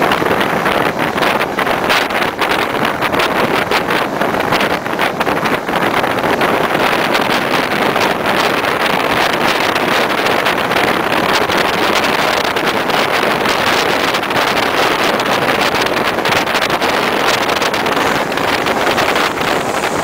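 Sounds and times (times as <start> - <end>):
train running noise: 0.0 - 20.0
wind rushing on microphone: 0.0 - 20.0.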